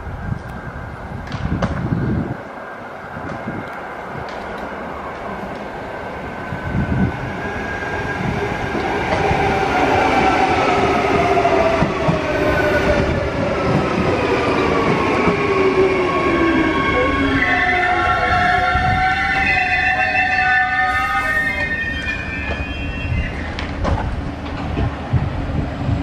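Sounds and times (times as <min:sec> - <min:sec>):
freight train running: 0:00.0 - 0:26.0.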